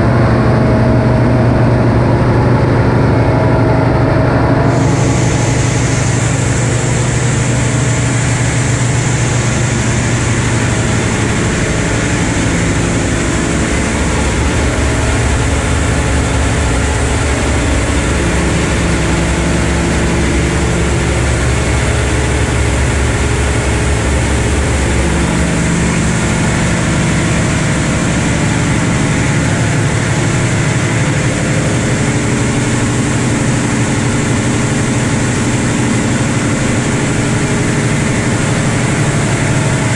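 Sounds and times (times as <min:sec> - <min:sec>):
engine-room machinery drone: 0:00.0 - 0:39.9.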